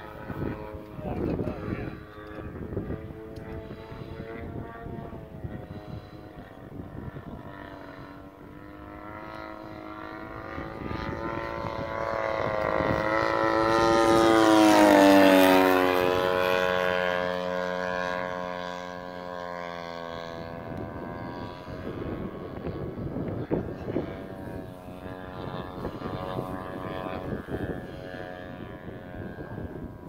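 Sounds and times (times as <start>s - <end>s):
model airplane propeller flyby: 0.0s - 30.0s.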